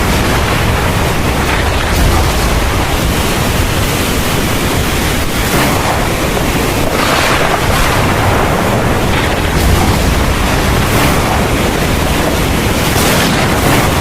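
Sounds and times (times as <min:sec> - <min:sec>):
heavy rain pouring: 0:00.0 - 0:14.0
low thunder rumble: 0:00.0 - 0:14.0.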